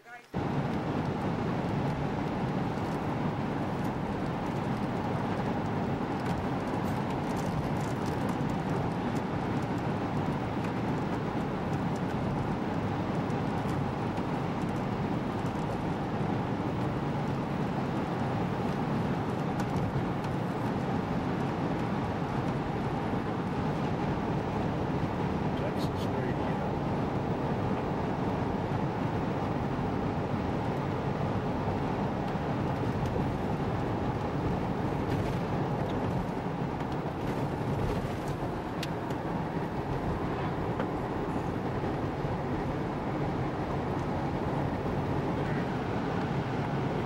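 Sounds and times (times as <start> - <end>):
car engine and tyre noise: 0.3 - 47.0.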